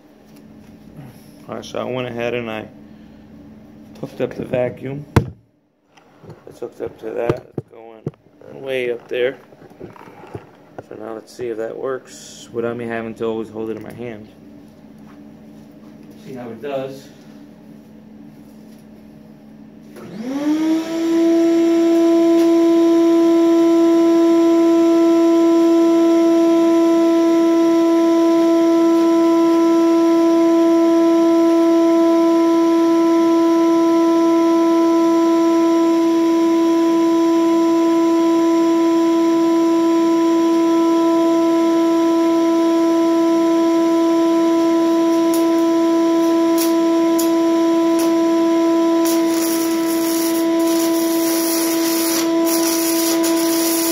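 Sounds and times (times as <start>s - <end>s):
shop vacuum motor whine: 6.0s - 53.9s.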